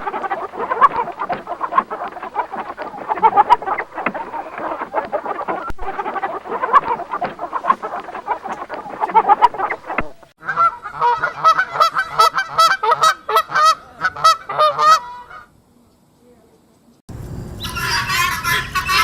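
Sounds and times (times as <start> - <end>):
fowl calling: 0.0 - 15.5, 17.6 - 19.0.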